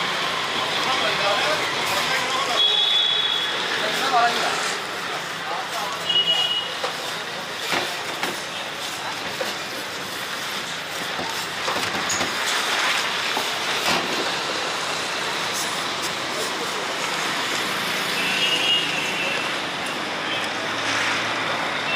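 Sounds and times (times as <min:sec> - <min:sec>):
roadside traffic: 0:00.0 - 0:21.9.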